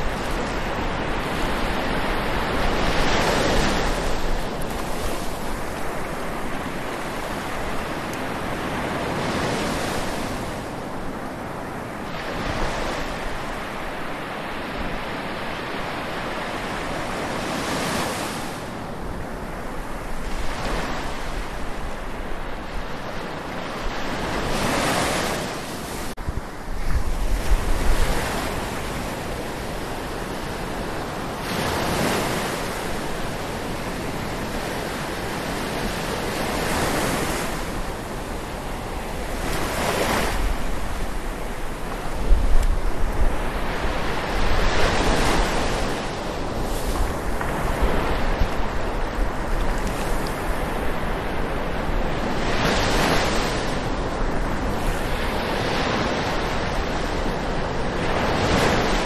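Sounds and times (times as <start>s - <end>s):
waves washing at the shore: 0.0s - 59.0s
wind buffeting microphone: 0.0s - 59.0s.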